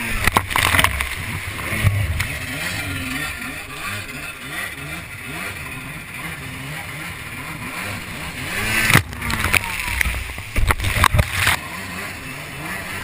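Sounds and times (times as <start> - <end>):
jet ski engine revving: 0.0 - 13.0
rushing water and wind: 0.0 - 13.0.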